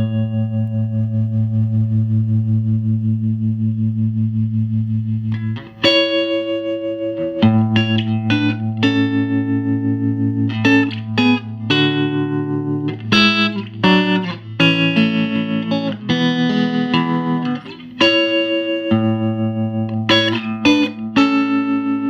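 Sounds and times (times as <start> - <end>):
electric guitar notes and chords: 0.0 - 22.0.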